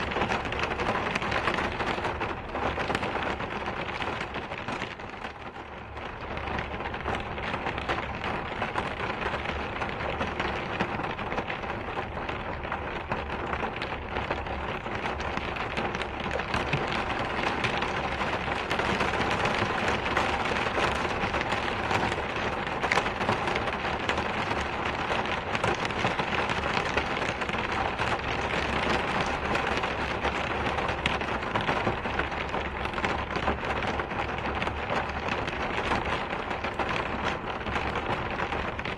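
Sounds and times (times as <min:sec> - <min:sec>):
rain patter: 0:00.0 - 0:38.9.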